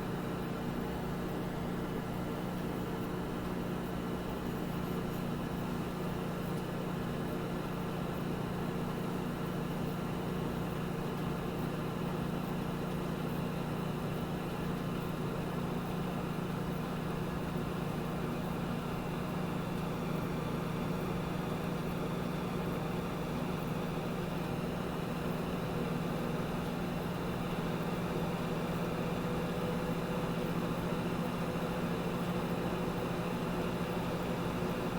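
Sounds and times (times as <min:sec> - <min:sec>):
microwave oven humming: 0:00.0 - 0:34.9.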